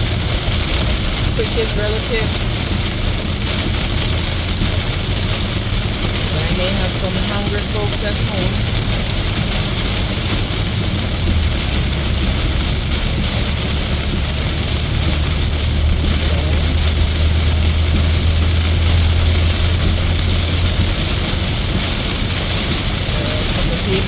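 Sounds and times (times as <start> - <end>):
engine and tyre drone: 0.0 - 24.0
rain and spray hissing on car: 0.0 - 24.0.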